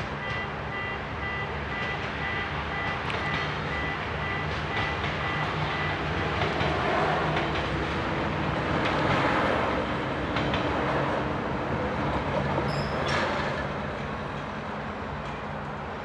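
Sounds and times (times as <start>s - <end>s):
railcar engine and wheel rumble: 0.0s - 16.0s.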